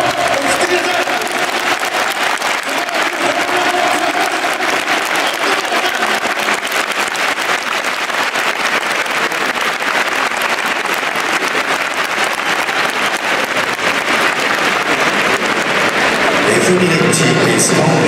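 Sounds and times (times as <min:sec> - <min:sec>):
stadium crowd applauding: 0:00.0 - 0:18.0.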